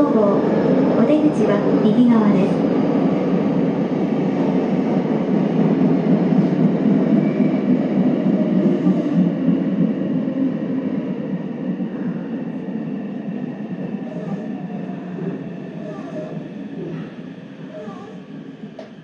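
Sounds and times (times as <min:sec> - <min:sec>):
subway train rumbling in tunnel: 0:00.0 - 0:19.0.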